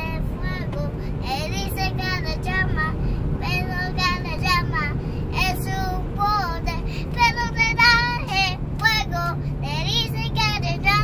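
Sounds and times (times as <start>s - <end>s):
girl singing in a high voice: 0.0s - 11.0s
low vehicle hum: 0.0s - 11.0s.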